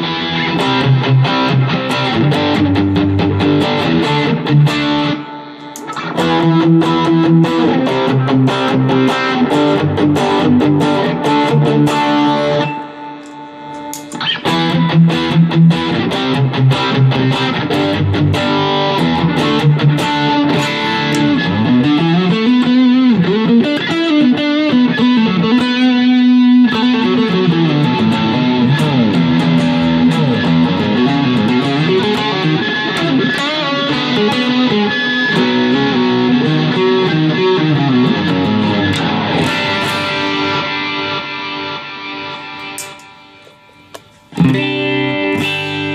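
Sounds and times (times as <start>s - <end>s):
electric guitar picked notes and chords: 0.0s - 45.9s.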